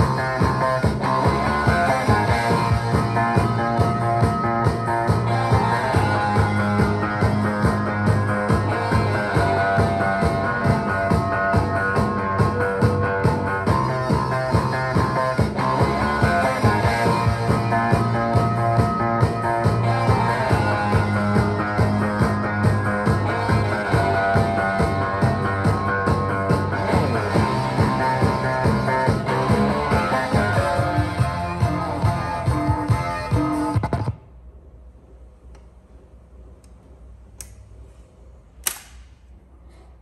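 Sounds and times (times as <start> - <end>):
song with steady beat from speakers: 0.0 - 34.2.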